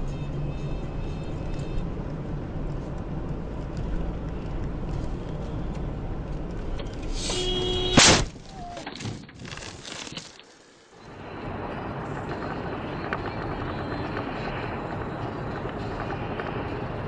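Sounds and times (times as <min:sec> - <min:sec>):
in-car road and engine noise: 0:00.0 - 0:17.0.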